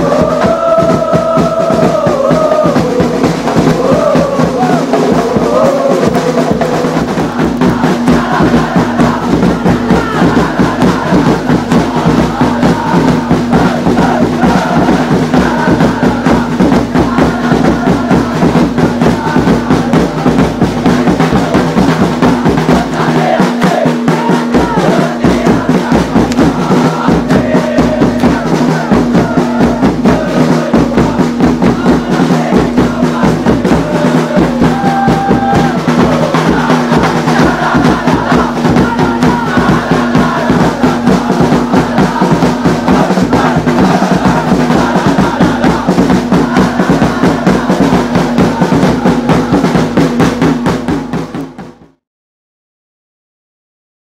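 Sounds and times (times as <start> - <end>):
crowd chanting and singing: 0.0 - 51.9
pounding drum beat: 0.0 - 52.0.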